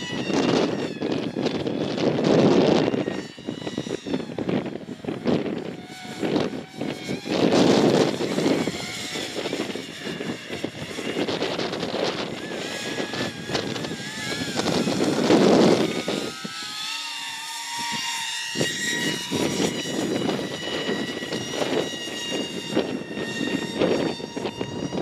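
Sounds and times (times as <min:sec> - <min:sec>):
electric ducted fans whining: 0:00.0 - 0:25.0
wind buffeting microphone: 0:00.0 - 0:25.0.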